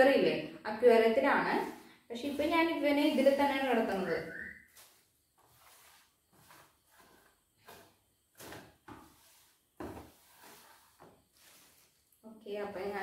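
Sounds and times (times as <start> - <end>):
cloth rubbing inside plastic tub: 1.2 - 12.1.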